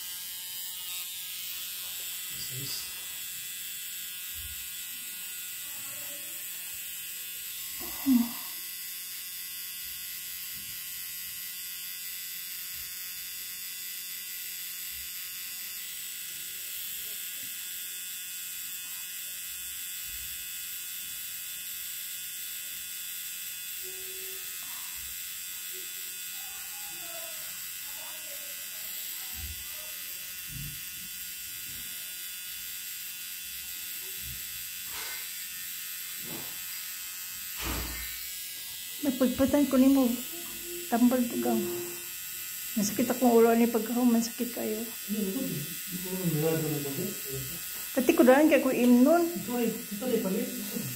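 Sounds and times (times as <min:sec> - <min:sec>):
tattoo pen buzzing: 0:00.0 - 0:50.9.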